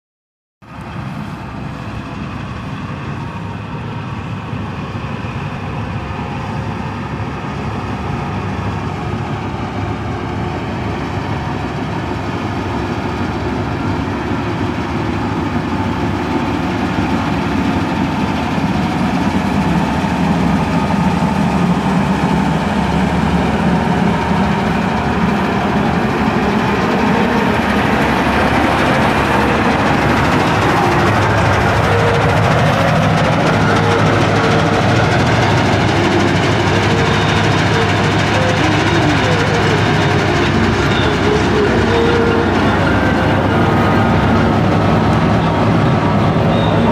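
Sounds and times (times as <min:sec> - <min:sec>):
combine harvester engine drone: 0:00.6 - 0:46.9.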